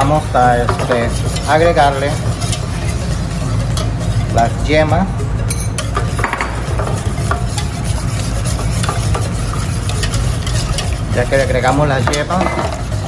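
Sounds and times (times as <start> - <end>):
steady low hum: 0.0 - 13.0
wire whisk scraping a pan: 0.0 - 13.0.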